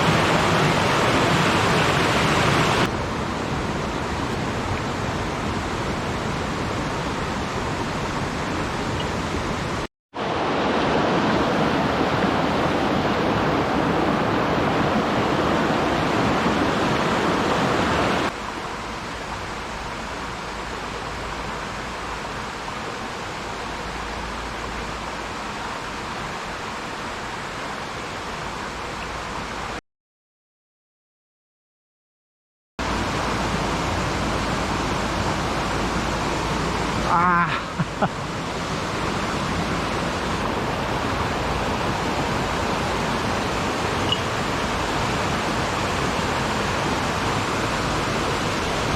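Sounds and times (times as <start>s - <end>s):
stream rushing over rocks: 0.0s - 29.8s, 32.8s - 48.9s.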